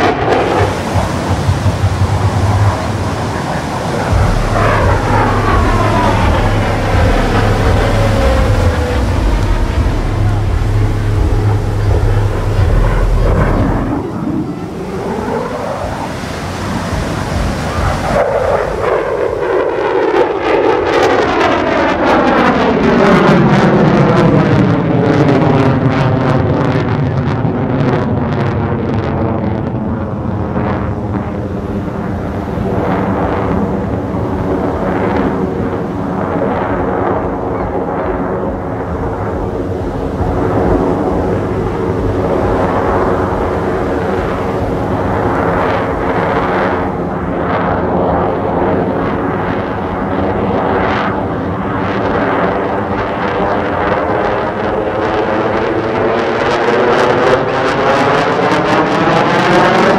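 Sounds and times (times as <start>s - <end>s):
fighter jet engine roar: 0.0s - 59.9s.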